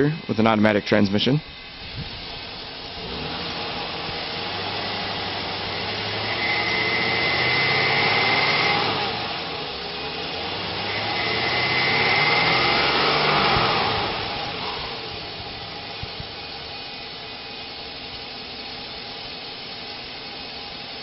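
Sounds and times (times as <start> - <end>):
thin high whine: 0.0 - 20.7
truck engine running: 0.0 - 21.0.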